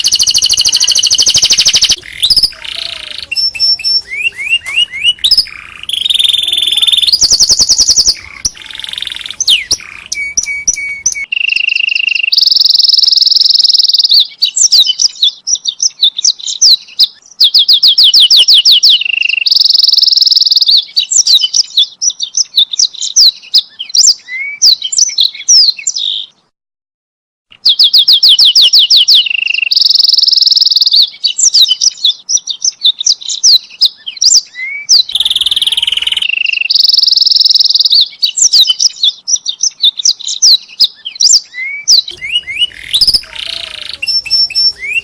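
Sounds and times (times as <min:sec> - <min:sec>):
canary singing trills: 0:00.0 - 0:26.5, 0:27.5 - 0:45.0.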